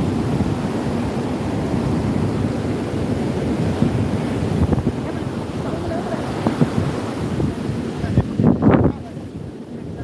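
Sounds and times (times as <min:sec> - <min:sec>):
heavy surf breaking: 0:00.0 - 0:10.0
wind buffeting microphone: 0:00.0 - 0:10.0.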